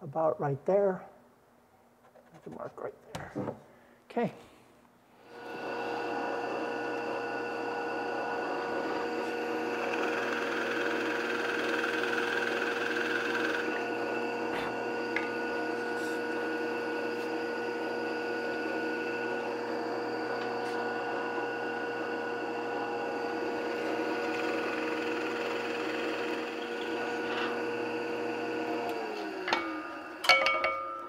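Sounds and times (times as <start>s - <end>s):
drill press boring wood: 5.2s - 30.3s.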